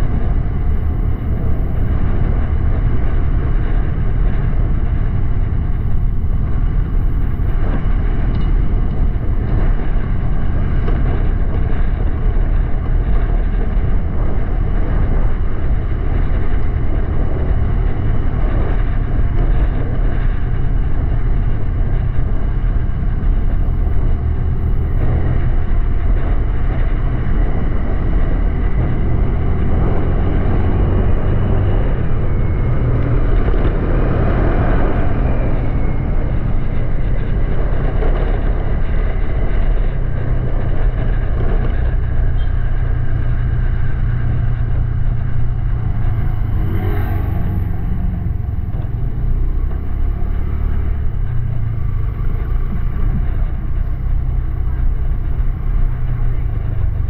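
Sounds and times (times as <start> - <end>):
wind rush on microphone: 0.0 - 57.0.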